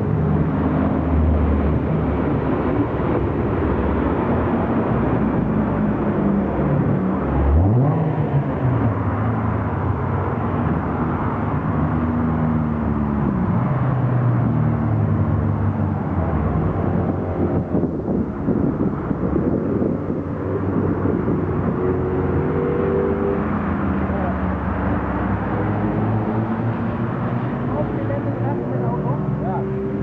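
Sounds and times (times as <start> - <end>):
sports car engines revving: 0.0 - 30.0.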